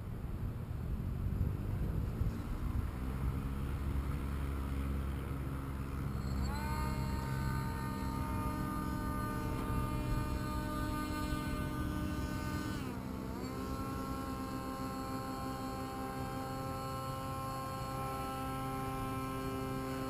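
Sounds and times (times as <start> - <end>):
aircraft motor drone: 0.0 - 20.0.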